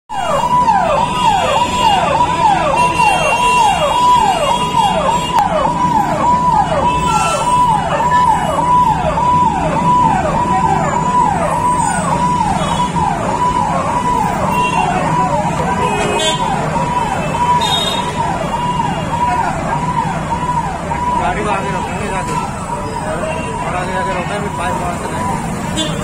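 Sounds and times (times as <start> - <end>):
fire engine electronic siren: 0.1 - 26.0.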